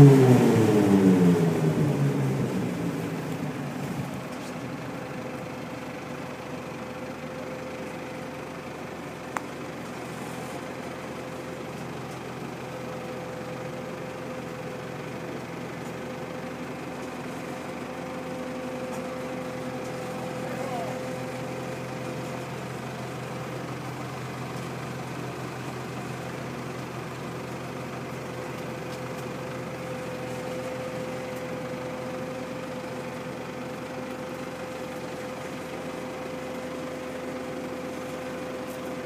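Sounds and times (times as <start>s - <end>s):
diesel machinery engine idling: 0.0s - 39.0s.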